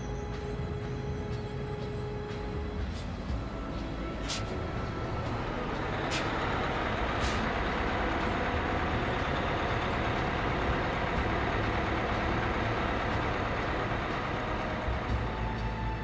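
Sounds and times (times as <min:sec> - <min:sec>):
street traffic noise: 0:00.0 - 0:16.0
vehicle engine idling: 0:00.0 - 0:16.0.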